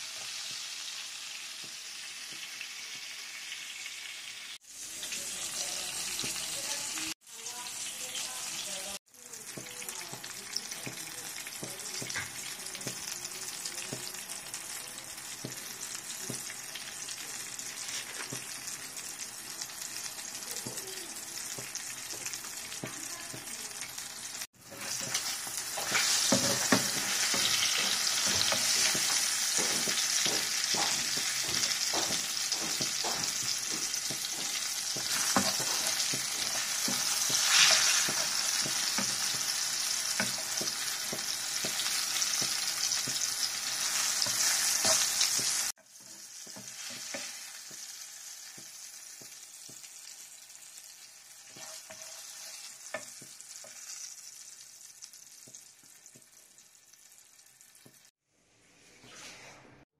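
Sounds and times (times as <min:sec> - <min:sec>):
vegetables sizzling in oil: 0:00.0 - 0:58.1.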